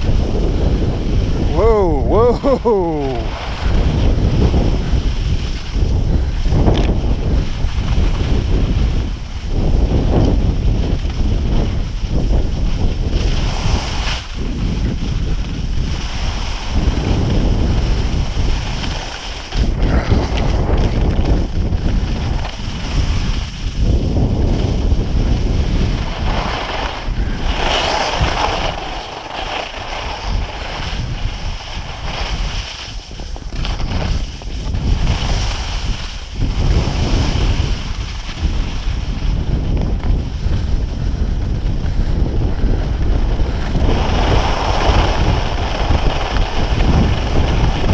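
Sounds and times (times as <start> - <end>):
skis scraping on snow: 0.0 - 47.9
wind buffeting microphone: 0.0 - 47.9.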